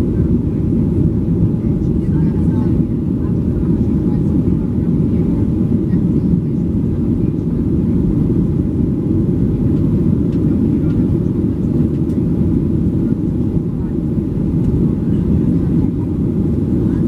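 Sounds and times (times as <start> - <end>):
airplane cabin engine roar: 0.0 - 17.0.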